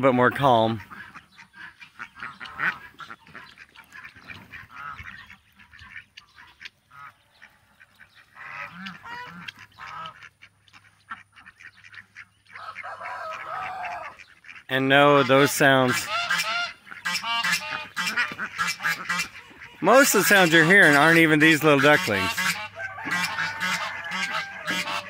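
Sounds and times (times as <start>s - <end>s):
ducks quacking: 0.0s - 25.0s
geese honking: 0.0s - 25.0s
ducklings peeping: 0.1s - 25.0s.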